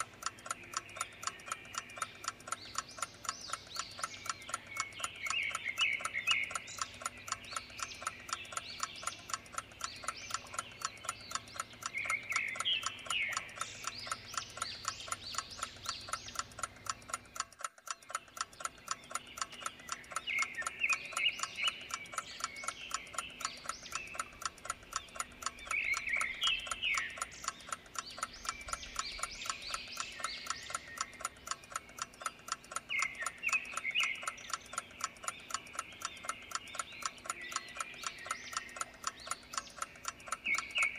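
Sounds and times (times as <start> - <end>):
short chirping call: 0.0 - 17.2, 17.9 - 40.9
clock ticking: 0.0 - 40.9.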